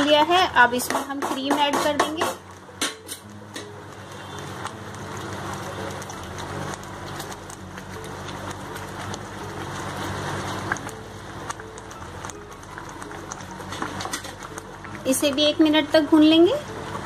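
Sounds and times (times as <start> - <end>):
gravy sizzling and spluttering: 0.0 - 17.0.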